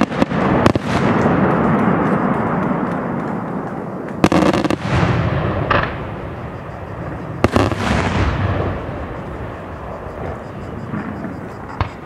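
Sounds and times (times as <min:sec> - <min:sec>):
fireworks bursting: 0:00.0 - 0:12.0
rumbling echo: 0:00.0 - 0:12.0.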